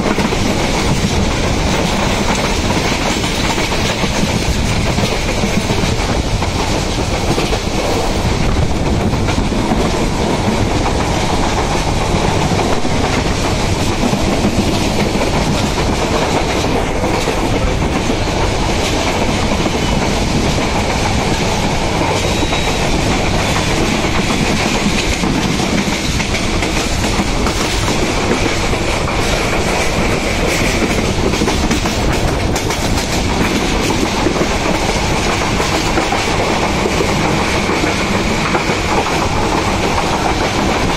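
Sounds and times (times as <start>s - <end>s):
train wheels rumbling on rails: 0.0s - 40.9s
wheels clacking over rail joints: 0.0s - 40.9s.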